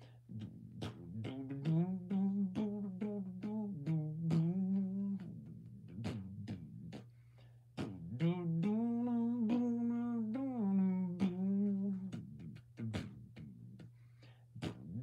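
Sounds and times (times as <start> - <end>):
person humming: 0.0 - 7.1, 7.8 - 14.0, 14.6 - 15.0
steady low hum: 0.0 - 15.0.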